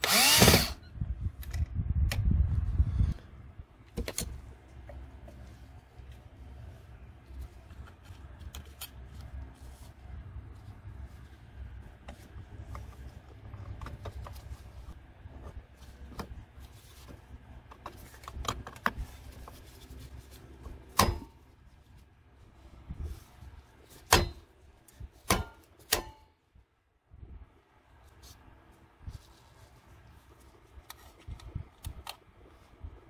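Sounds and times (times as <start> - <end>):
small handling clicks and scrapes: 3.8 - 26.2, 28.0 - 33.0.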